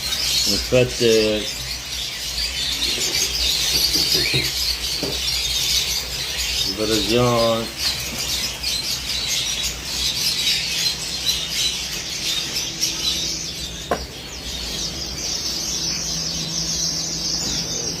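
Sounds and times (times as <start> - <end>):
caged birds chirping: 0.0 - 18.0.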